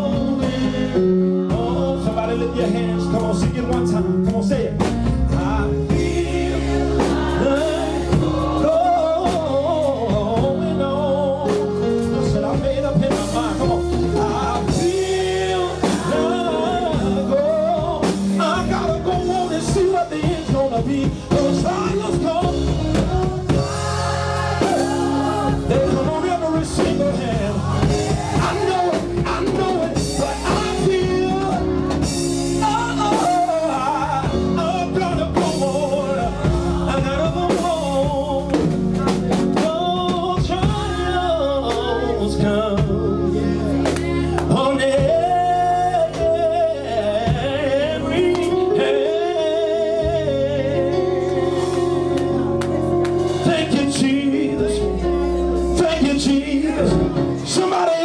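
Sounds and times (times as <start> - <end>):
drum kit: 0.0 - 58.0
live band accompaniment: 0.0 - 58.0
man singing gospel: 0.0 - 58.0.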